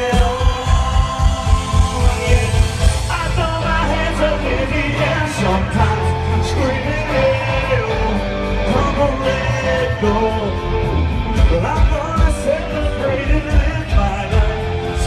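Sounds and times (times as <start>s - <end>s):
heavy bass and drum beat: 0.0s - 15.0s
live country band playing: 0.0s - 15.0s
male lead vocal: 0.0s - 15.0s.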